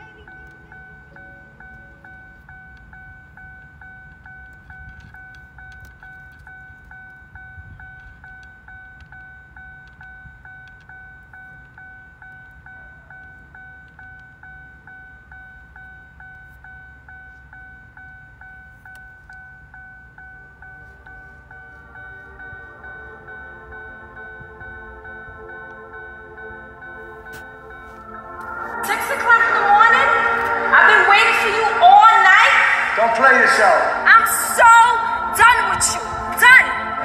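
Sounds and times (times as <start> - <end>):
dashboard warning chime: 0.0 - 37.0.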